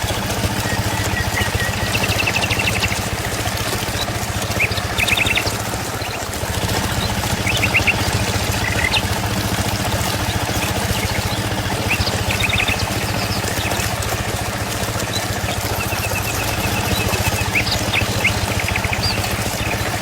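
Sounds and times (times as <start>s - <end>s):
birds chirping: 0.0s - 20.0s
motor hum with fast pulsing: 0.0s - 20.0s.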